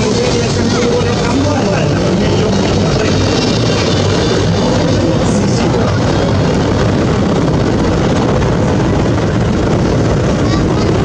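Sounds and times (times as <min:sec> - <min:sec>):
helicopter rotor and engine noise: 0:00.0 - 0:11.0.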